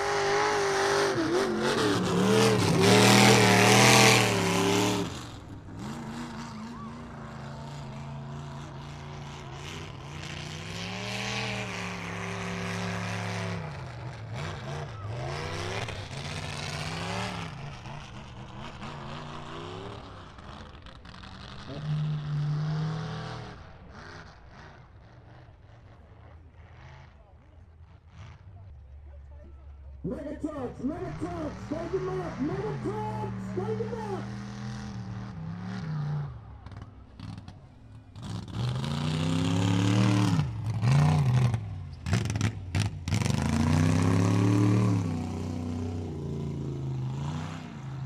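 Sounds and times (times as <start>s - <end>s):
truck engine revving: 0.0s - 27.1s, 30.1s - 48.0s.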